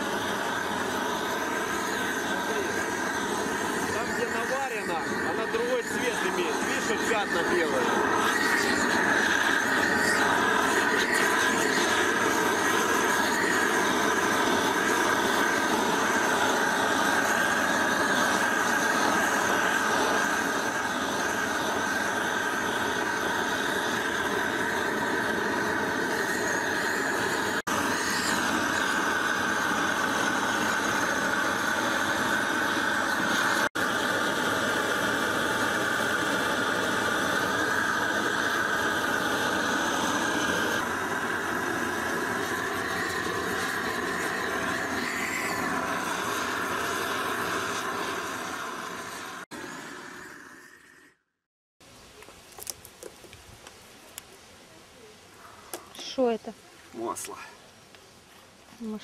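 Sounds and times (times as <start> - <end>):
gas torch flame rushing: 0.0 - 51.2
steady high whine: 0.0 - 51.4.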